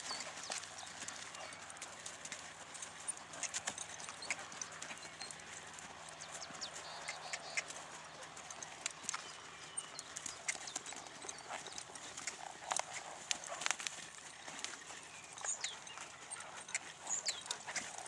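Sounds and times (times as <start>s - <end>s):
horse hoofbeats on sand: 0.0s - 18.0s.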